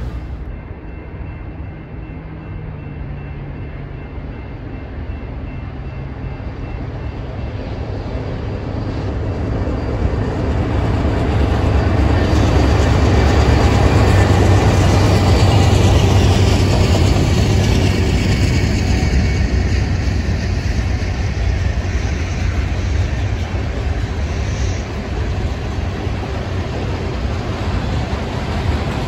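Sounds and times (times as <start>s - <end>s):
diesel locomotive engine rumble: 0.0s - 29.0s.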